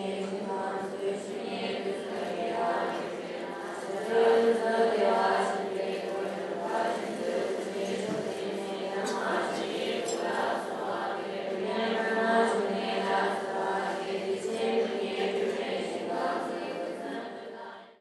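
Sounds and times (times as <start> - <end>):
many voices chanting: 0.0 - 18.0.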